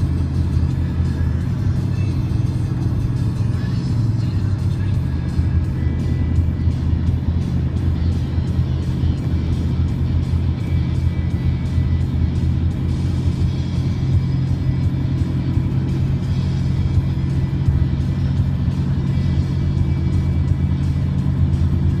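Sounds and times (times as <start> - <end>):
engine and road noise: 0.0 - 22.0
music from car radio: 0.0 - 22.0.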